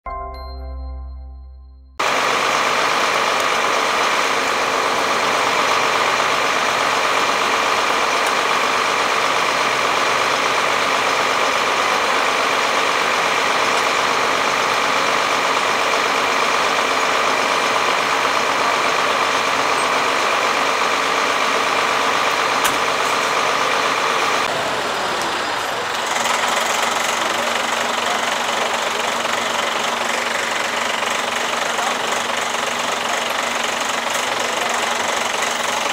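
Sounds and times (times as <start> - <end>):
diesel engine idling: 2.0 - 35.9.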